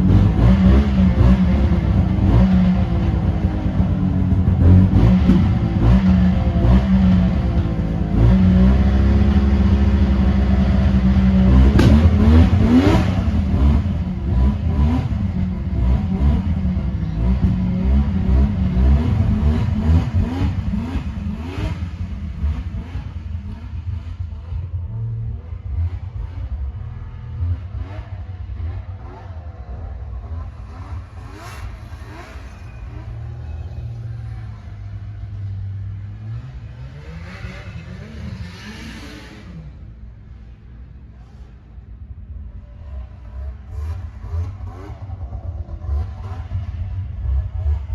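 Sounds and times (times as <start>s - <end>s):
snowmobile engine revving: 0.0s - 39.7s, 42.6s - 47.9s.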